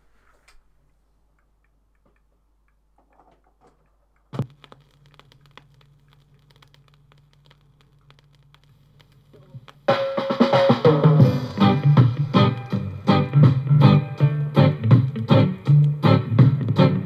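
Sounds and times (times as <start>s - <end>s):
vinyl record crackle and clicks: 0.0s - 17.0s.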